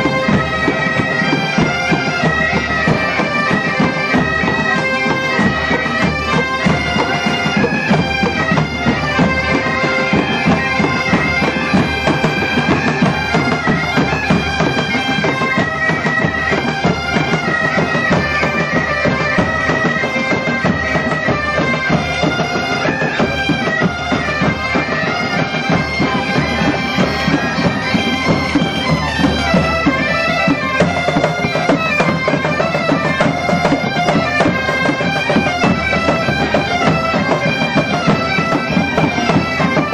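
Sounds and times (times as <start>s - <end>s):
bagpipes playing with drones: 0.0s - 39.9s.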